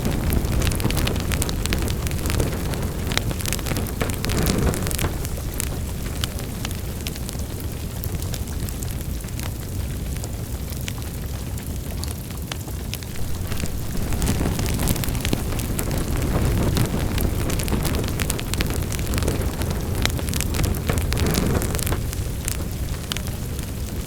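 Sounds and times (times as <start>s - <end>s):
wood fire burning: 0.0s - 24.0s.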